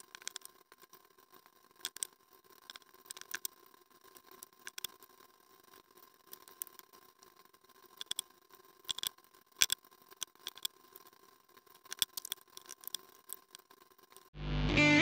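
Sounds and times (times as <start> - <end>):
plastic parts clicking and knocking: 0.0 - 14.3.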